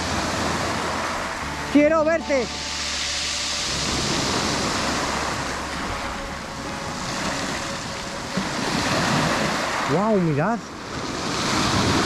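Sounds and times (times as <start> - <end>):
waves washing up pebble beach: 0.0 - 12.0.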